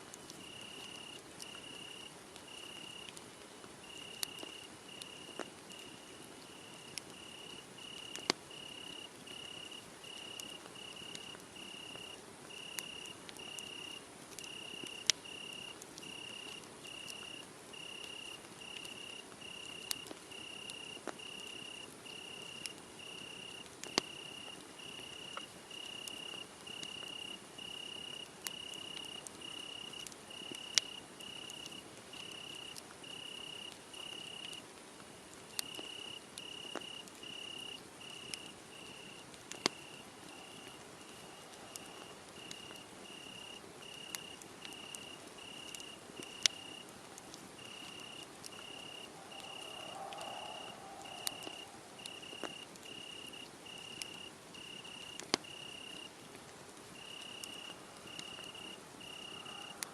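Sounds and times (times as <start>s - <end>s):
wood fire crackling: 0.0s - 59.9s
cricket chirping: 0.4s - 3.2s, 3.8s - 34.6s, 35.5s - 56.1s, 57.0s - 59.9s.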